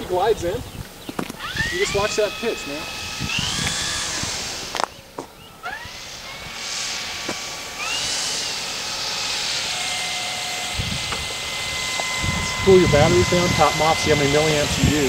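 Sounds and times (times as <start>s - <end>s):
propeller rushing: 0.0s - 15.0s
electric motor whining: 0.7s - 15.0s.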